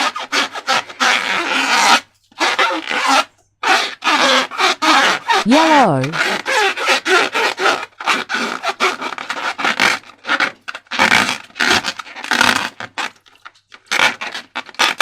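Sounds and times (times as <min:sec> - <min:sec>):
sticky slime rubbing and scraping: 0:00.0 - 0:15.0.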